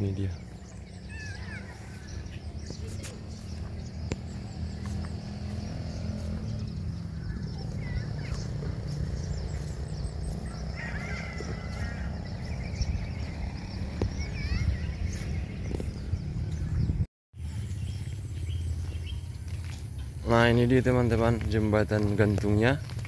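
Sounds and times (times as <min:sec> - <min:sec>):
birds chirping: 0:00.0 - 0:23.0
steady low rumble: 0:00.3 - 0:22.2.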